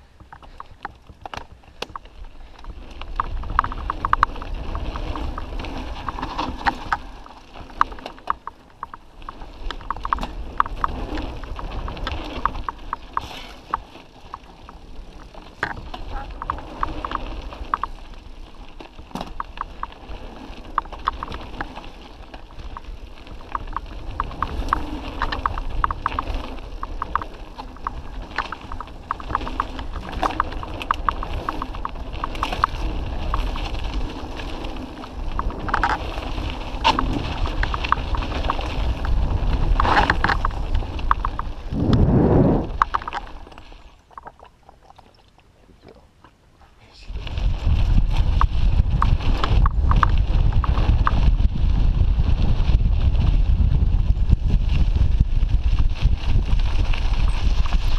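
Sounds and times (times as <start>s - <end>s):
wind rumble on microphone: 0.0s - 45.0s, 46.8s - 57.9s
bike rattling: 0.0s - 45.2s, 47.1s - 57.9s
tyres running over dirt: 0.0s - 46.5s, 47.1s - 57.9s.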